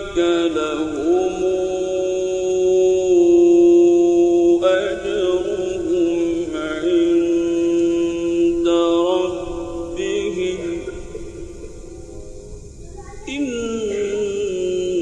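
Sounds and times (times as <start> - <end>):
man reciting melodically: 0.0 - 12.4, 13.1 - 15.0.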